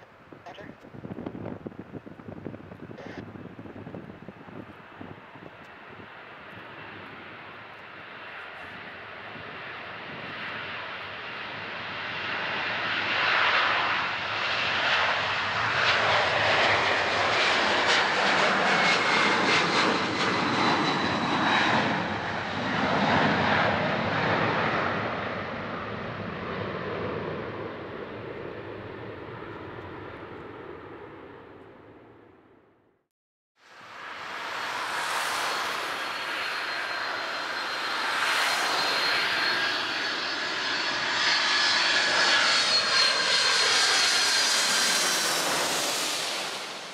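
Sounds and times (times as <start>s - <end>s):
jet engine whine: 0.0s - 32.8s, 33.6s - 46.9s
jet engines roaring at takeoff: 0.1s - 32.4s, 33.6s - 46.9s.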